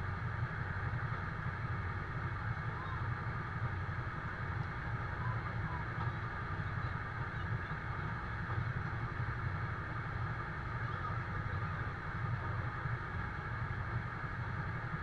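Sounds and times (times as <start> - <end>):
diesel engine running steadily: 0.0 - 15.0.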